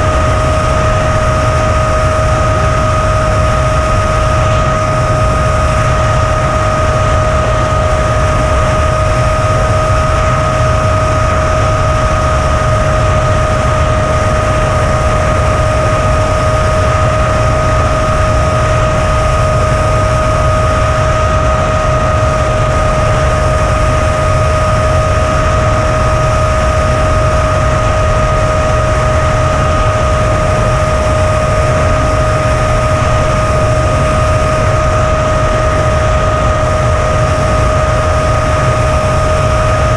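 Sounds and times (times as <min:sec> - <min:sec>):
quadcopter high whine: 0:00.0 - 0:39.9
wind rushing noise: 0:00.0 - 0:39.9.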